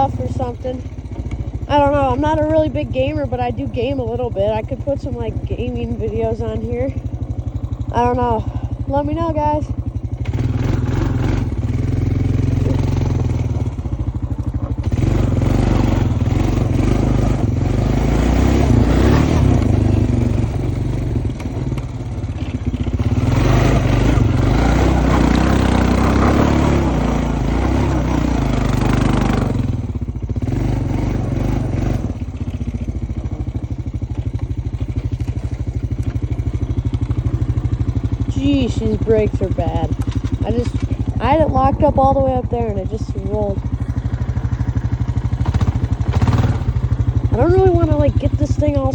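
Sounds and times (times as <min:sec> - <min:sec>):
atv engine revving: 0:00.0 - 0:48.9
atv rattling over ground: 0:00.0 - 0:48.9.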